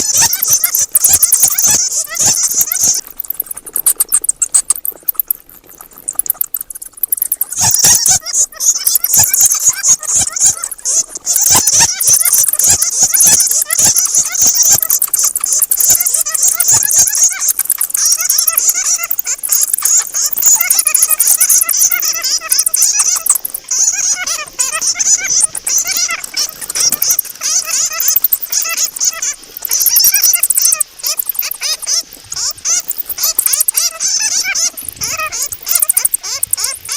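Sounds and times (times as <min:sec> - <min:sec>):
bats chattering: 0:00.0 - 0:36.9.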